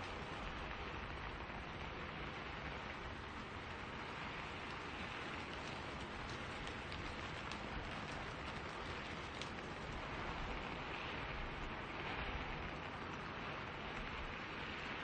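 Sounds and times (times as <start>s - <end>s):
steady rain in forest: 0.0s - 15.0s.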